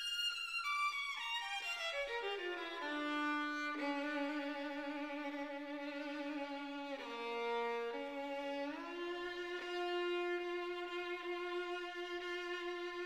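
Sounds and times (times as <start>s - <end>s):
slow violin melody: 0.0s - 13.0s.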